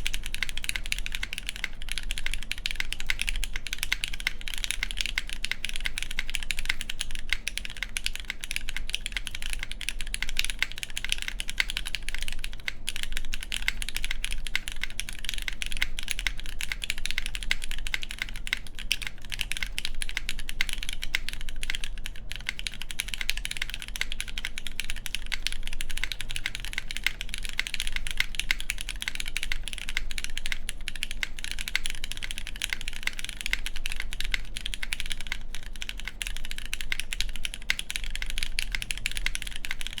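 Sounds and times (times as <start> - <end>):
fast typing on mechanical keyboard: 0.0 - 40.0.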